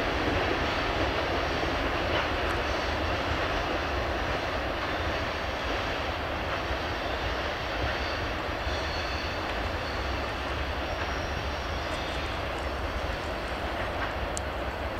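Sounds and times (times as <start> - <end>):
freight train rumbling on track: 0.0 - 14.9.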